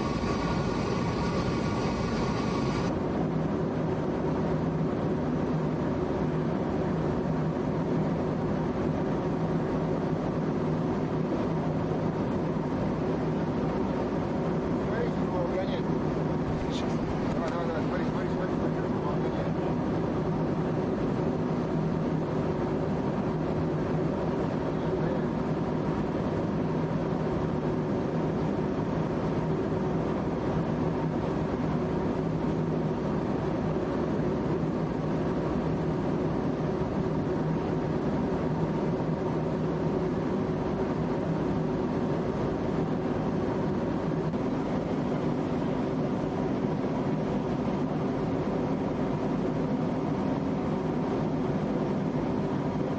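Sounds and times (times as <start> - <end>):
jet aircraft cabin drone: 0.0 - 52.9.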